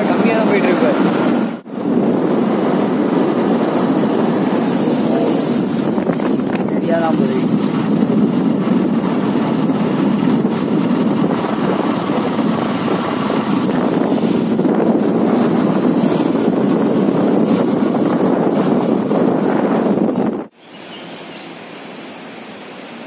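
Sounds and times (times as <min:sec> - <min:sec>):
motorcycle engine: 0:00.0 - 0:20.5
wind rush over microphone: 0:00.0 - 0:20.6.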